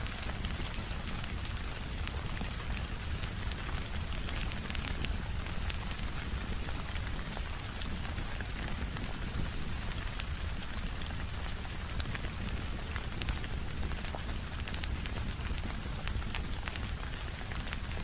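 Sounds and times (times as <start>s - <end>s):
rain pattering on window: 0.0s - 18.0s
wood fire crackling: 0.0s - 18.0s.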